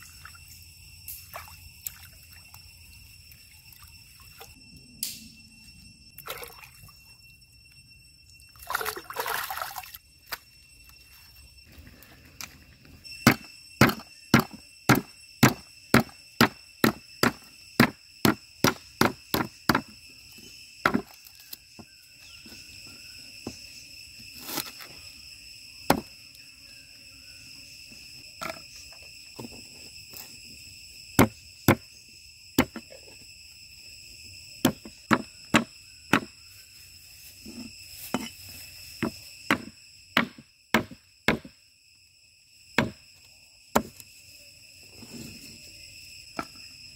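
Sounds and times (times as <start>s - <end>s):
insects buzzing: 0.0s - 46.9s.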